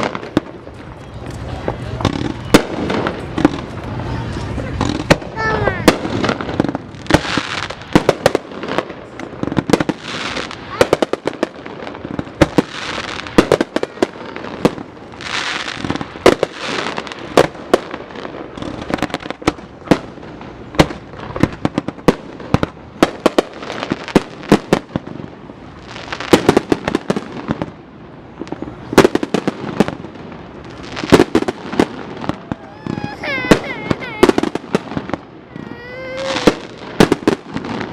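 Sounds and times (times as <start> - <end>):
fireworks bangs and pops: 0.0 - 37.9
fireworks hissing crackle: 0.0 - 37.9.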